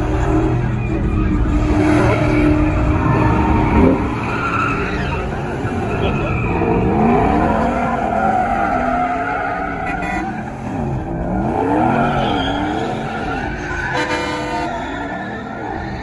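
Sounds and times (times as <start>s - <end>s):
truck engine revving: 0.0s - 16.0s
tyres squealing on pavement: 0.6s - 10.6s, 11.3s - 16.0s.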